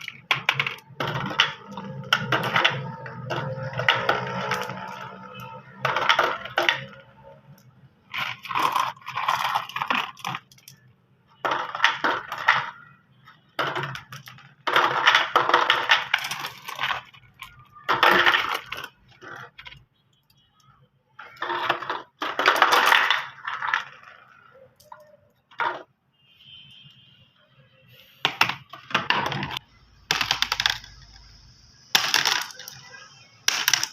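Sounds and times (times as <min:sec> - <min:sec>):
marbles clacking down a track: 0:00.0 - 0:25.9, 0:28.2 - 0:33.9.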